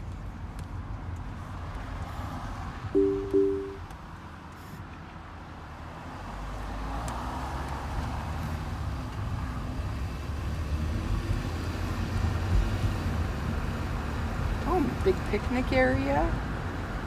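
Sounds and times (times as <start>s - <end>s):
car engine and tyre noise: 0.0s - 2.9s, 3.9s - 15.4s.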